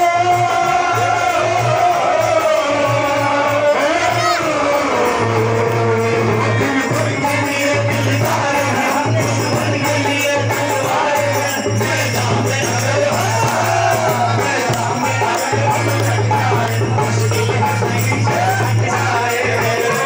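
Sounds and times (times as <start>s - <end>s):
folk song through loudspeaker: 0.0s - 20.0s.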